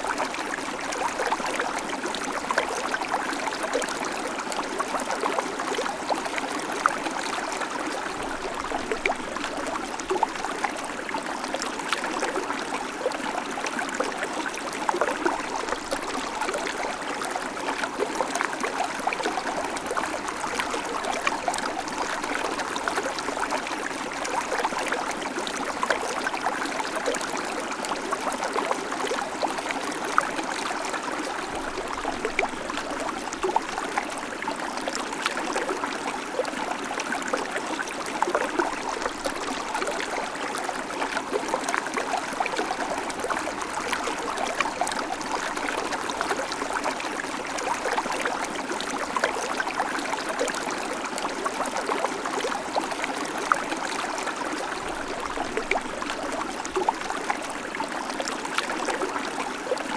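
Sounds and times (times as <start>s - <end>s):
creek babbling over stones: 0.0s - 59.9s.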